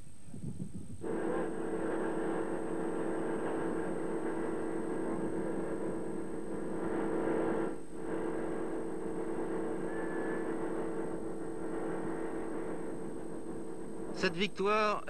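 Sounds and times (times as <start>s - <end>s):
low hum: 0.0s - 15.0s
steady drone: 1.0s - 14.7s.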